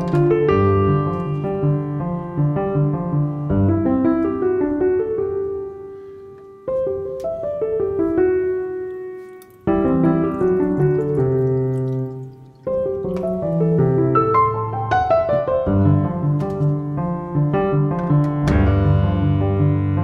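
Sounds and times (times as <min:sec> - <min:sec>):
piano piece: 0:00.0 - 0:20.0.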